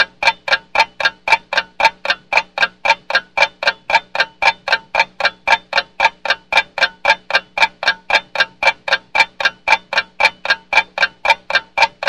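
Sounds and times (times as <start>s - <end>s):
mechanical clock ticking: 0.0s - 12.0s.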